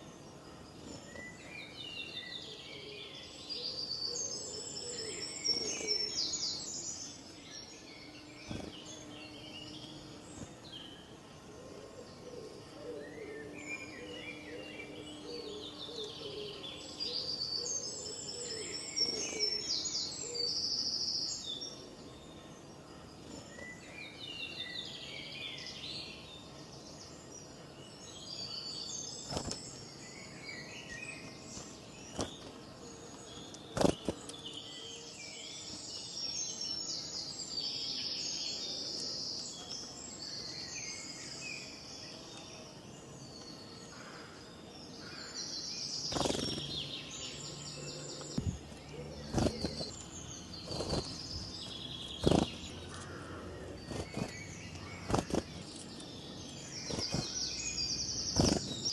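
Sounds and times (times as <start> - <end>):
birds chirping and singing: 0.0 - 58.9
faint outdoor background: 0.0 - 58.9.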